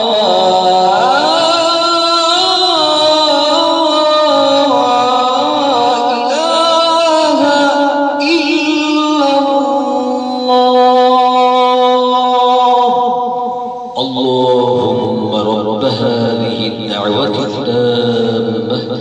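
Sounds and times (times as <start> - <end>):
man singing call to prayer: 0.0 - 19.0.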